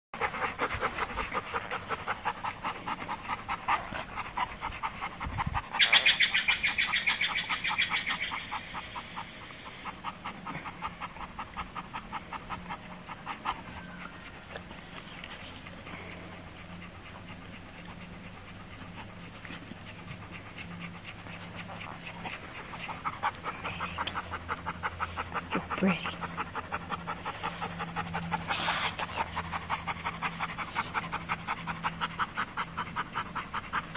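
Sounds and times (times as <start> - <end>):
dogs panting: 0.2 - 33.9.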